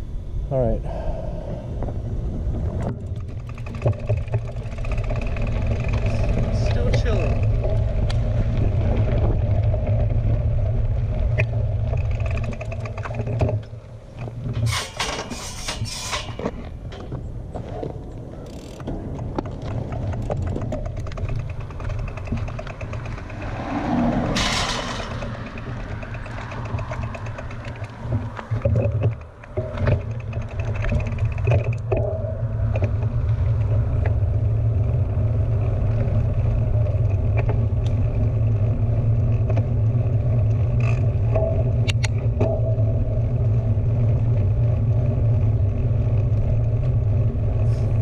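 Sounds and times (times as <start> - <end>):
tyres on trail: 0.0 - 48.0
wind noise: 0.0 - 48.0.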